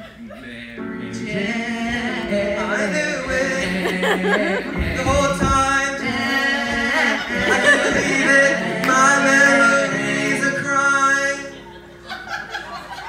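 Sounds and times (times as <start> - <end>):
men singing a cappella harmony: 0.3 - 11.7.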